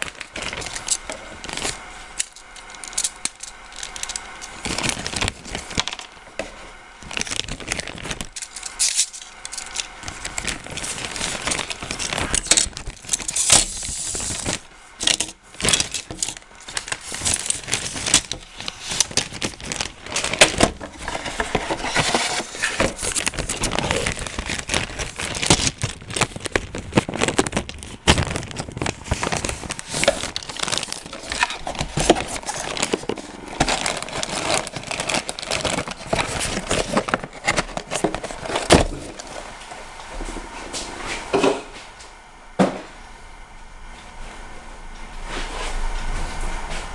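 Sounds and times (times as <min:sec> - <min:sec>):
plastic crinkling and clicking: 0:00.0 - 0:39.6.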